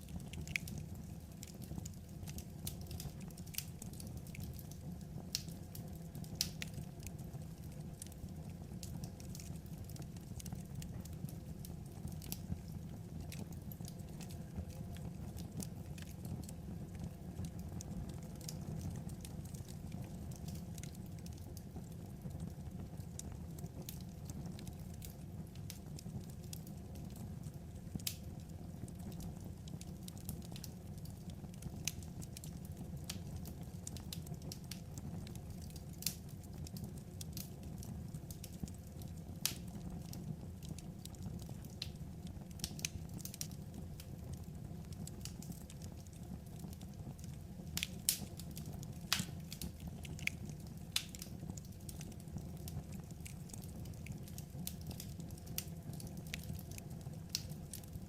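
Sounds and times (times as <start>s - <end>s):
low rumble of flames: 0.0s - 58.0s
wood fire popping and snapping: 0.0s - 58.0s.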